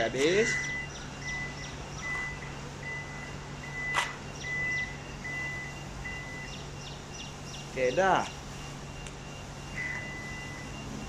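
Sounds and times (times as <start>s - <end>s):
tailgate warning buzzer beeping: 0.2s - 7.2s, 7.9s - 11.0s.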